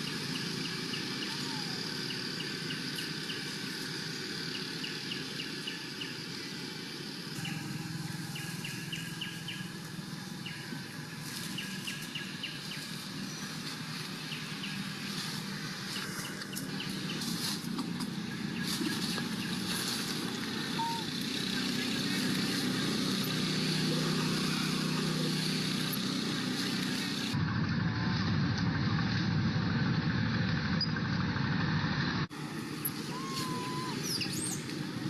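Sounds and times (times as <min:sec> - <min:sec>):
low rumble of distant traffic: 0:00.0 - 0:35.0.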